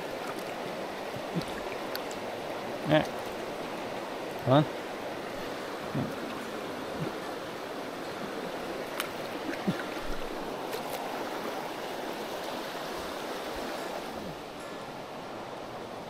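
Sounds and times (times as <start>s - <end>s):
river flowing over rocks: 0.0s - 16.0s.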